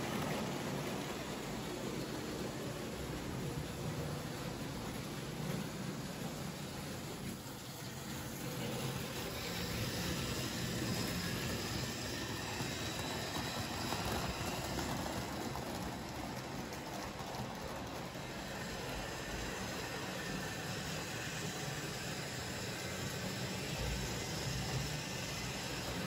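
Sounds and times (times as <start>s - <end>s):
model train motors whirring: 0.0s - 26.0s
wheels rolling on track: 0.0s - 26.0s.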